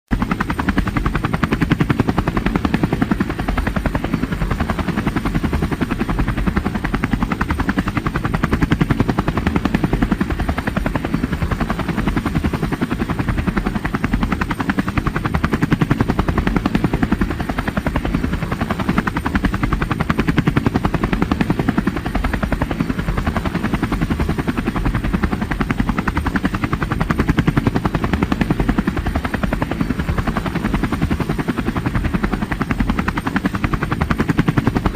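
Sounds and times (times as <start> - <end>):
helicopter engine noise: 0.1 - 34.9.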